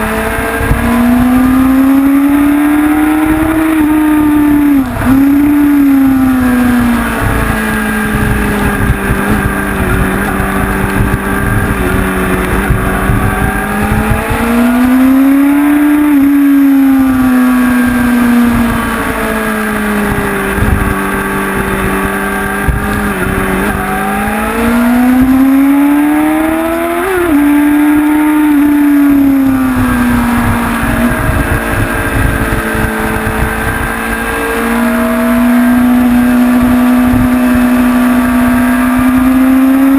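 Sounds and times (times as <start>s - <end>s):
motorcycle engine revving: 0.0s - 39.9s
wind buffeting on microphone: 0.0s - 39.9s.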